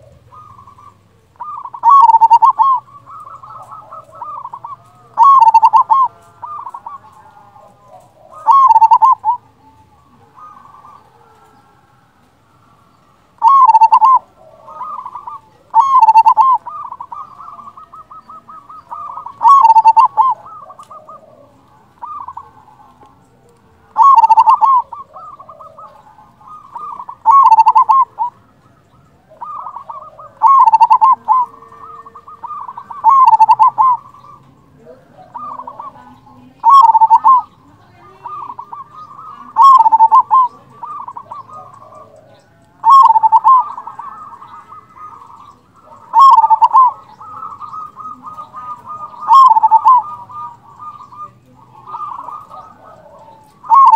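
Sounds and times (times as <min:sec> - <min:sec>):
soft bird trilling: 0:00.0 - 0:11.9, 0:12.6 - 0:53.9
dove cooing: 0:00.0 - 0:53.9.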